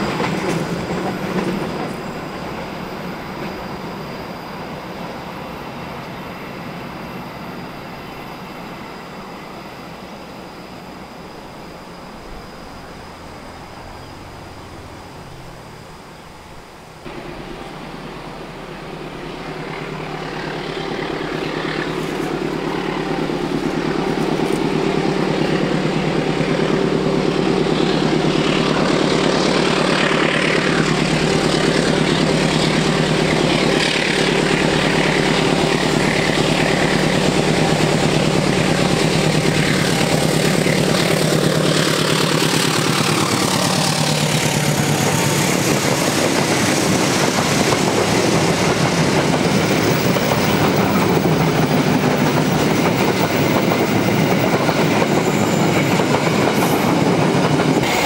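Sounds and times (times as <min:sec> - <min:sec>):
locomotive engine drone: 0:00.0 - 0:58.0
passing train: 0:00.0 - 0:58.0.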